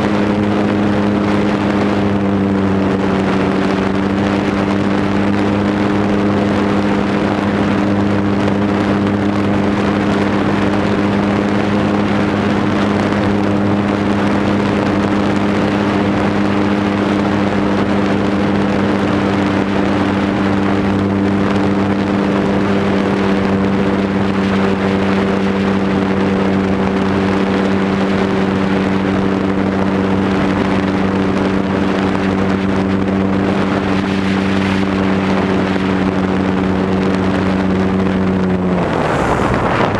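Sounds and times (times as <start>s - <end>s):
airplane engine droning: 0.0s - 39.9s
wind over microphone: 0.0s - 39.9s.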